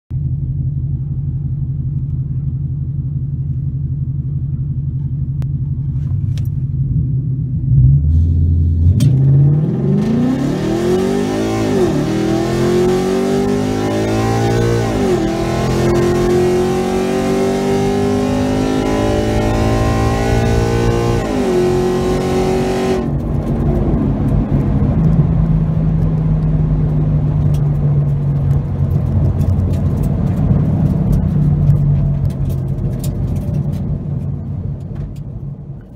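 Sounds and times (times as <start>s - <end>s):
road noise: 0.1s - 35.9s
car engine accelerating: 0.2s - 35.9s.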